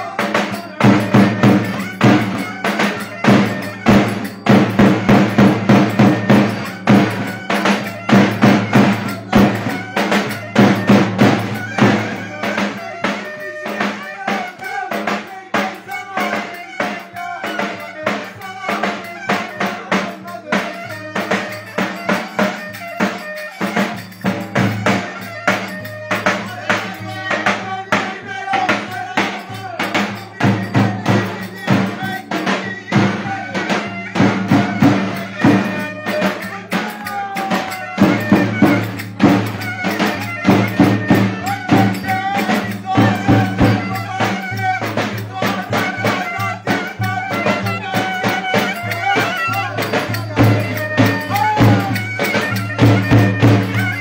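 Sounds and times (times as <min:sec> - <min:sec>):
fast drum beats: 0:00.0 - 0:54.0.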